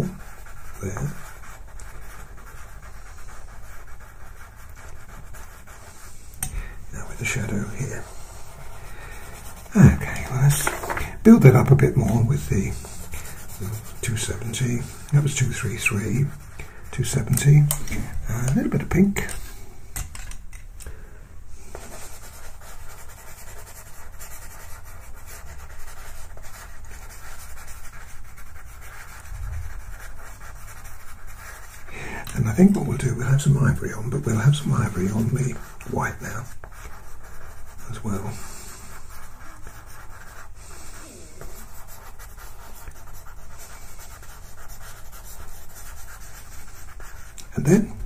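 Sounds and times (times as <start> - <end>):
pencil scratching on paper: 0.0 - 19.6, 21.6 - 48.0.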